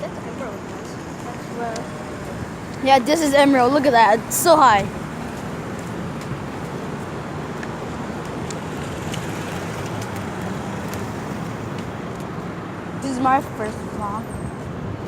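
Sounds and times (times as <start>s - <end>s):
road traffic hiss and hum: 0.0s - 15.0s.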